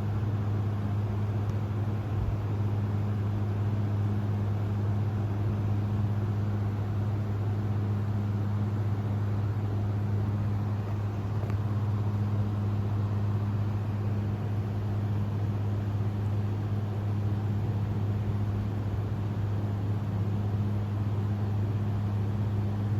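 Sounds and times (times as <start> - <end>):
low machine hum with hiss: 0.0 - 22.9.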